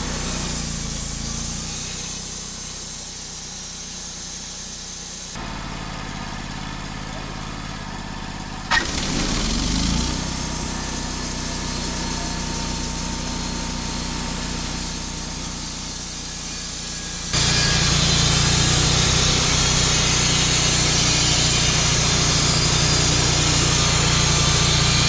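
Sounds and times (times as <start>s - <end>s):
sawmill engine running: 0.0s - 25.0s.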